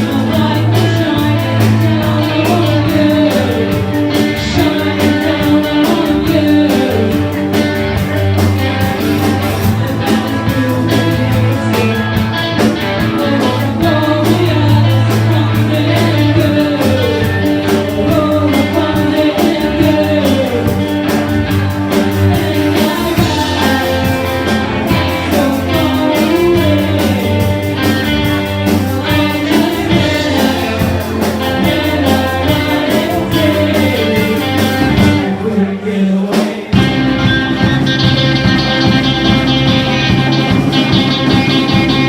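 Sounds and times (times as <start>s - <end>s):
person singing: 0.0s - 42.0s
rock band playing: 0.0s - 42.0s.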